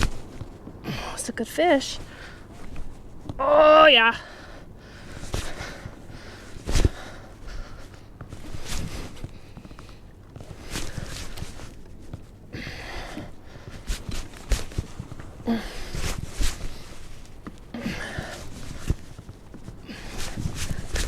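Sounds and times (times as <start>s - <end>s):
person breathing heavily: 0.8s - 1.2s, 2.0s - 2.7s, 4.1s - 11.8s, 12.4s - 21.0s.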